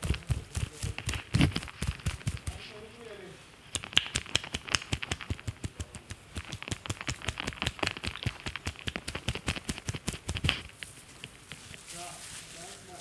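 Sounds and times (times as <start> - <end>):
palms chopping on scalp: 0.0 - 2.8, 3.8 - 11.6.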